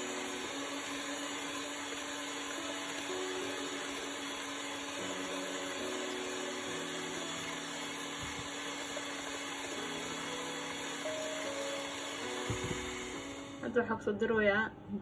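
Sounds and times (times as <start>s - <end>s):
electric hand mixer whisking eggs: 0.0s - 13.7s.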